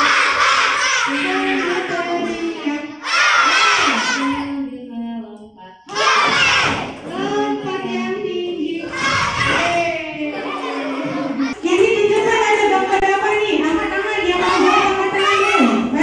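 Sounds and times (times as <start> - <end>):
children shouting and singing: 0.0 - 4.7, 5.9 - 13.0, 13.6 - 16.0.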